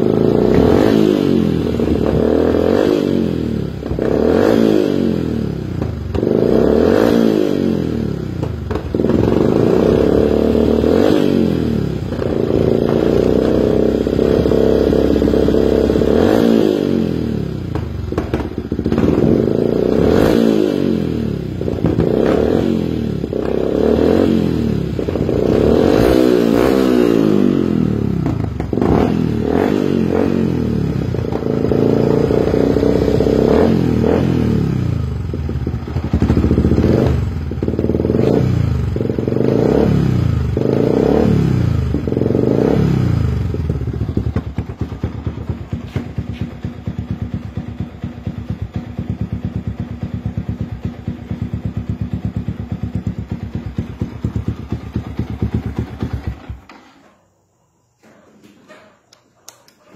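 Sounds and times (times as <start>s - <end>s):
motorcycle engine revving: 0.0s - 57.1s.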